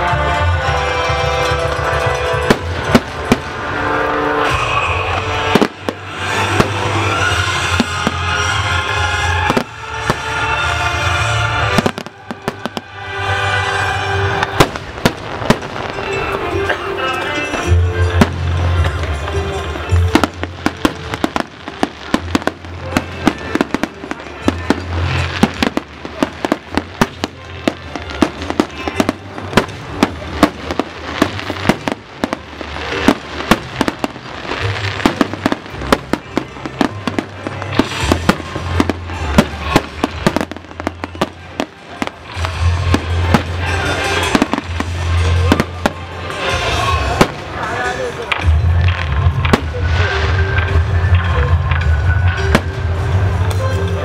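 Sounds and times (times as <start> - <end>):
fireworks bangs: 0.0 - 54.0
music with steady bass: 0.0 - 54.0.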